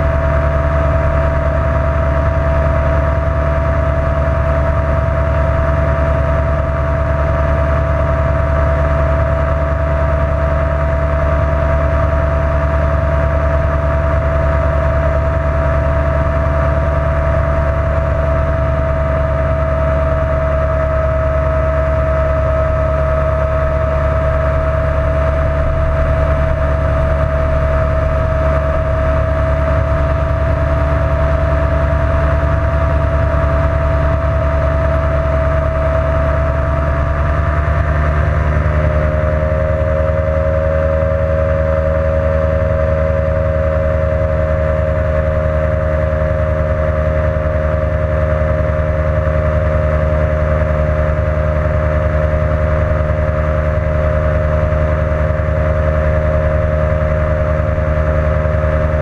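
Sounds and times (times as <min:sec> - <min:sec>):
ultralight aircraft engine and propeller: 0:00.0 - 0:59.0.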